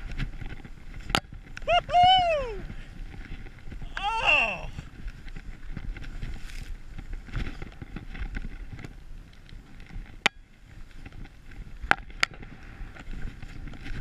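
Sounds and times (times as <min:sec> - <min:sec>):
skis scraping through snow: 0:00.0 - 0:14.0
wind on microphone: 0:00.0 - 0:14.0.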